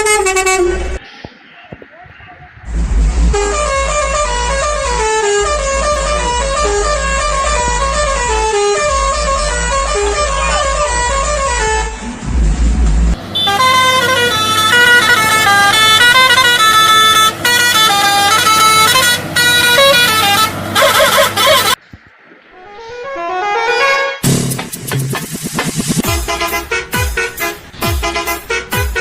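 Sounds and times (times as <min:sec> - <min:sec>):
truck musical horn tune: 0:00.0 - 0:01.0, 0:02.8 - 0:12.3, 0:13.1 - 0:21.8, 0:22.6 - 0:24.7, 0:26.0 - 0:29.0
rising horn sweep: 0:02.7 - 0:21.8, 0:22.6 - 0:29.0.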